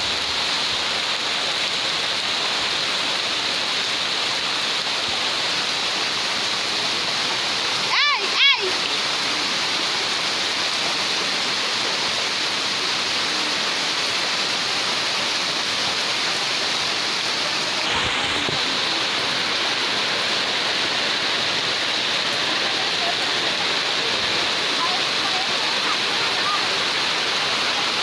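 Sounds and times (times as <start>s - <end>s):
heavy rain on a tin roof: 0.0s - 28.0s.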